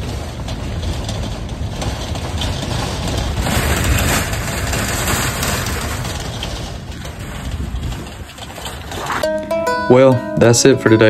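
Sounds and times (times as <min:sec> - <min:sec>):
engine and tyre rumble: 0:00.0 - 0:09.3.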